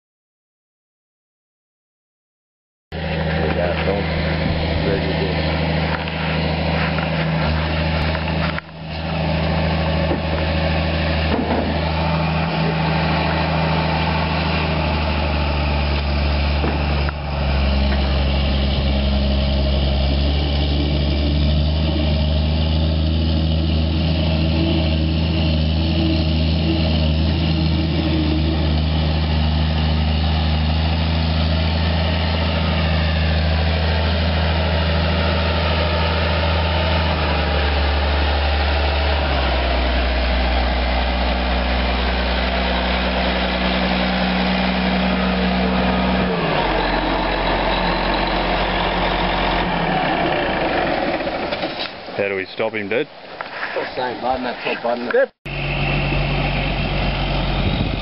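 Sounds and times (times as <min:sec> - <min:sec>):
tractor diesel engine droning: 0:02.9 - 0:58.0.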